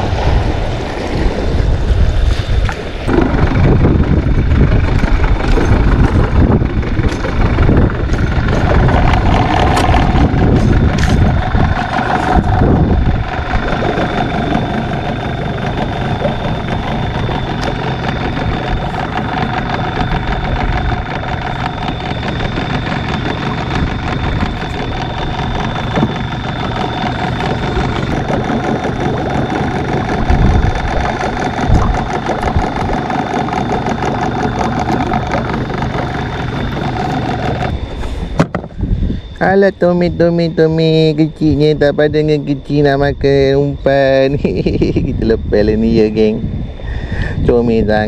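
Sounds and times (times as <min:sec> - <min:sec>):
outboard motor idling: 0:00.0 - 0:48.0.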